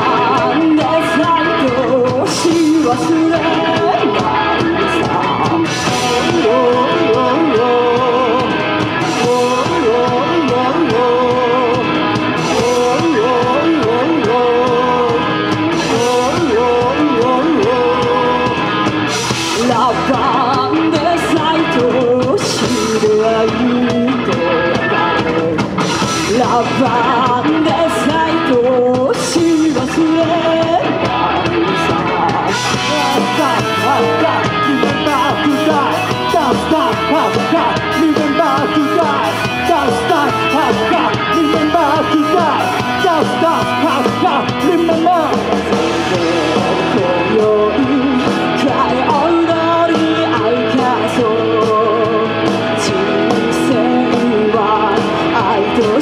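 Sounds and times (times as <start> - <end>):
drum kit: 0.0 - 56.0
live rock band: 0.0 - 56.0
person singing: 0.0 - 56.0.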